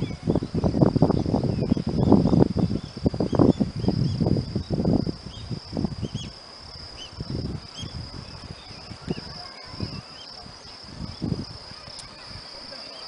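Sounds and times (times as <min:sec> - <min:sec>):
insects trilling: 0:00.0 - 0:13.0
wind buffeting microphone: 0:00.0 - 0:13.0.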